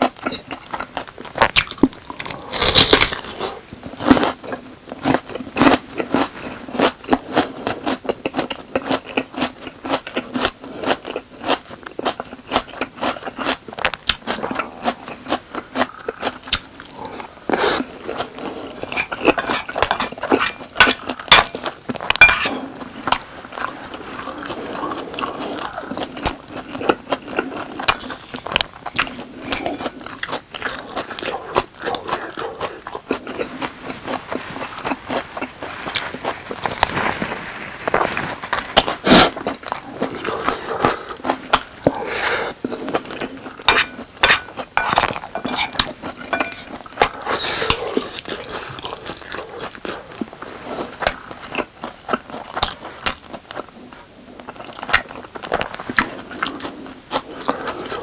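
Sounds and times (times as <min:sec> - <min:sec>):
chewing and biting food: 0:00.0 - 0:58.0.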